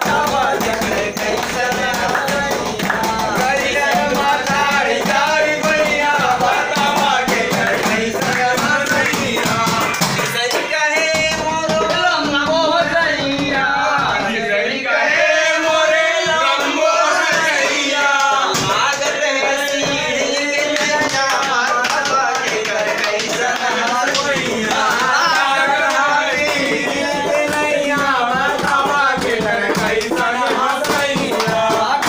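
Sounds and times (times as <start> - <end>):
men singing folk song: 0.0 - 32.0.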